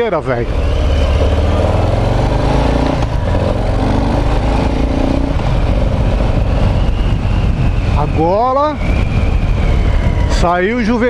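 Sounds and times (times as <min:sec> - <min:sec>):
motorcycle engine running: 0:00.3 - 0:11.0.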